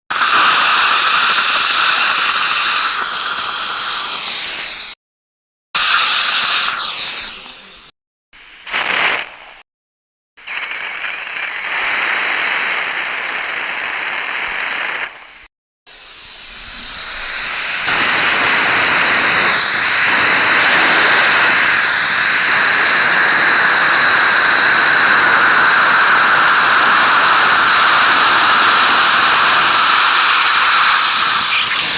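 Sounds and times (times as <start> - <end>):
dental suction tool hissing: 0.1 - 5.0, 5.8 - 9.6, 10.4 - 31.9.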